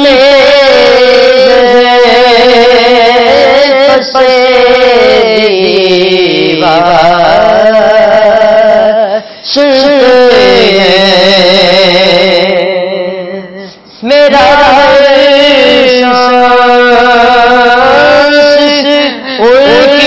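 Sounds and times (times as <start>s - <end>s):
young man singing held notes: 0.0s - 20.0s.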